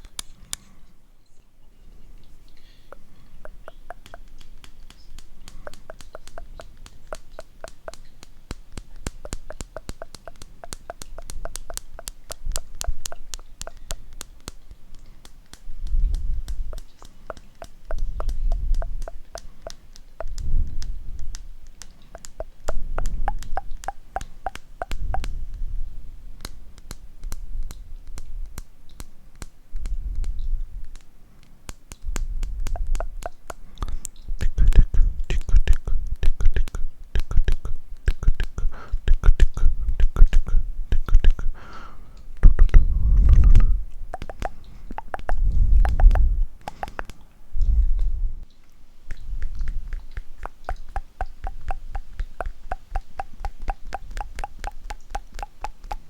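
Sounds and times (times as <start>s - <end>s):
mouth clicks: 2.2s - 25.8s, 26.4s - 56.0s.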